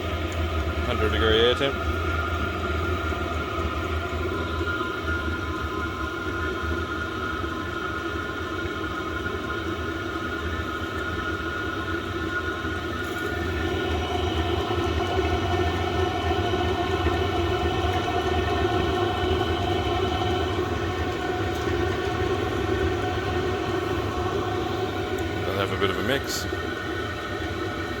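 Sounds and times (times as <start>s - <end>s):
faint steady whine: 0.0s - 28.0s
heater humming: 0.0s - 28.0s.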